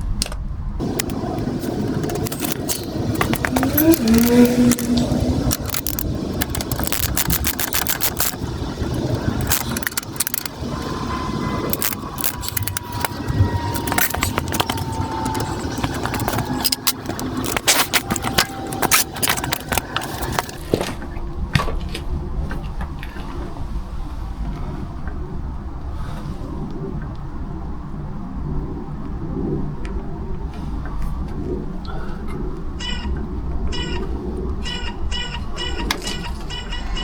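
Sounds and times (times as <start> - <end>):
low rumbling background: 0.0 - 37.0.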